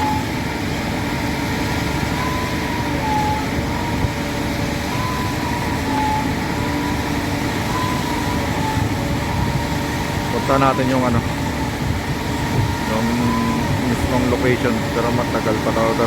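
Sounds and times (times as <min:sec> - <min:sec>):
diesel engine droning: 0:00.0 - 0:16.0
pump whine dipping in pitch: 0:00.0 - 0:16.0.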